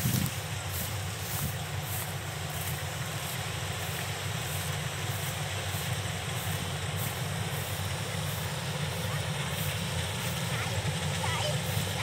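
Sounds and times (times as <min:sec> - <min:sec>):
combine harvesters engine drone: 0:00.0 - 0:12.0.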